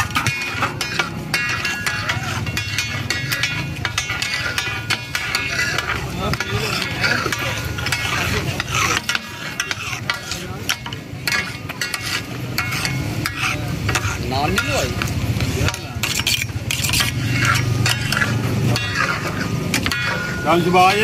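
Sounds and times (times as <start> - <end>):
food sizzling in oil: 0.0 - 21.0
metal spatulas scraping on griddle: 0.0 - 21.0.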